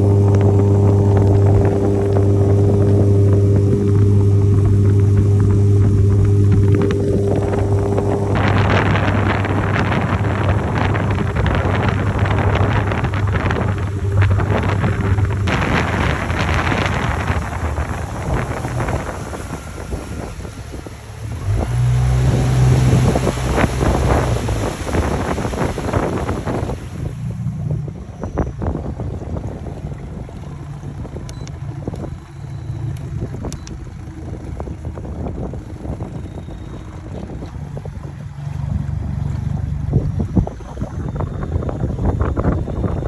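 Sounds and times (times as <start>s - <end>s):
outboard motor running: 0.0s - 43.0s
wind buffeting microphone: 0.0s - 43.0s.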